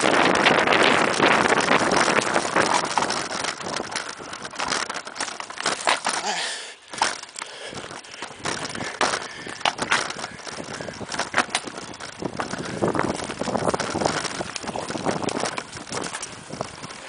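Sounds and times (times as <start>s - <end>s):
bike rattling over bumps: 0.0s - 17.0s
bike tyres rumbling on dirt trail: 0.0s - 17.0s.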